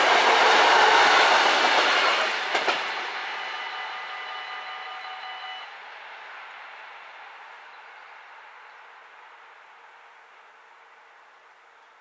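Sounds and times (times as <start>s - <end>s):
faint train rumble: 0.0s - 12.0s.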